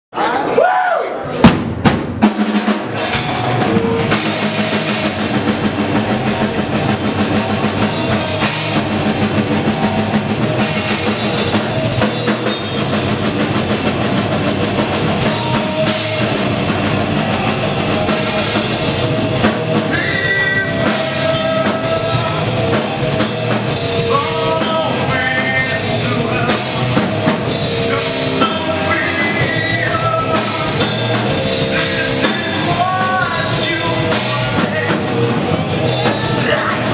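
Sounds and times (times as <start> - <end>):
rock band playing live: 1.3 - 36.9
higher melodic lines: 2.6 - 36.9.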